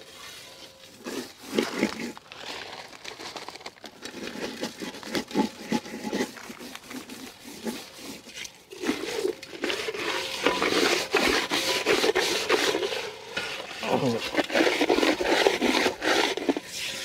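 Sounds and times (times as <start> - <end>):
salt scrubbing on fish: 0.0 - 17.0.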